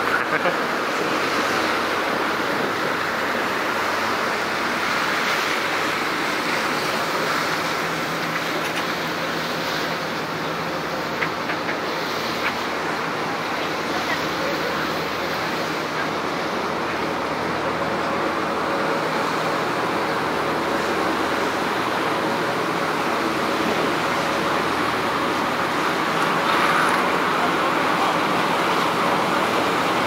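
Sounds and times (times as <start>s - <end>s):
boat engine running: 0.0s - 30.0s
churning boat wake: 0.0s - 30.0s
wind over deck: 0.0s - 30.0s.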